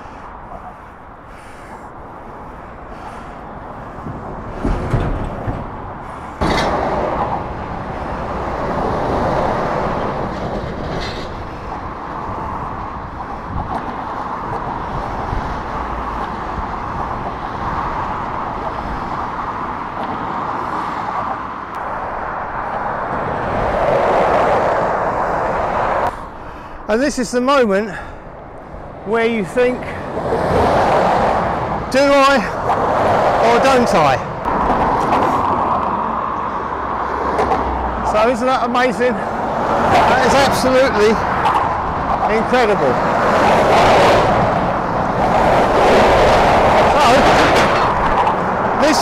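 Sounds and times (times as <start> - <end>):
traffic tyre noise: 0.0 - 49.0.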